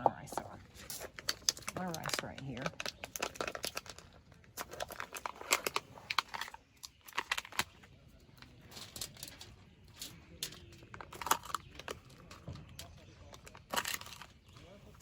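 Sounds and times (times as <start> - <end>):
aluminium foil crinkling: 0.2 - 15.0.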